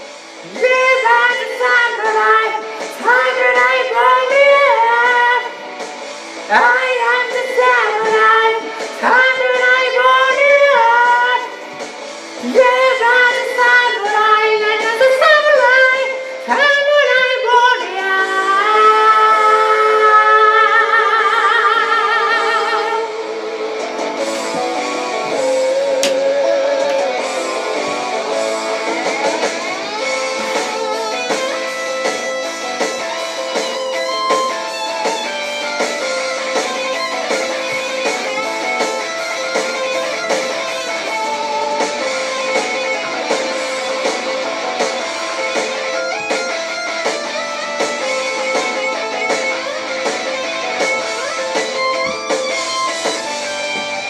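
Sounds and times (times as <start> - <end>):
heavy metal backing track: 0.0 - 54.0.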